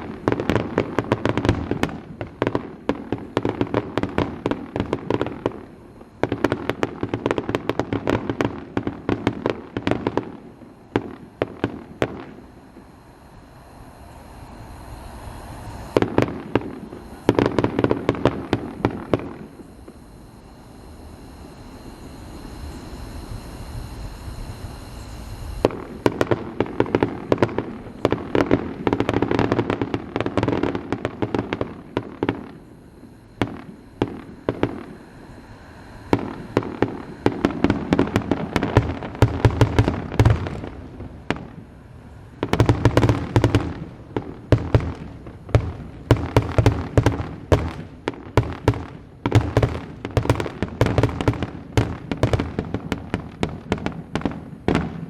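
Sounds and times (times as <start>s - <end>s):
fireworks exploding: 0.0s - 55.0s.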